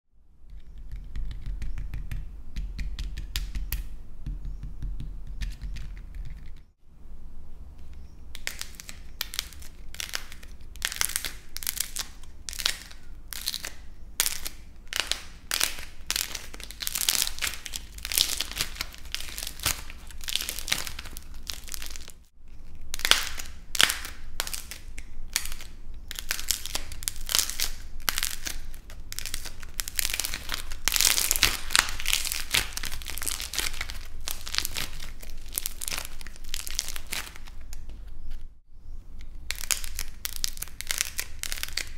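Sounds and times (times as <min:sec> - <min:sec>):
dried clay crackling and crunching: 0:07.8 - 0:41.9.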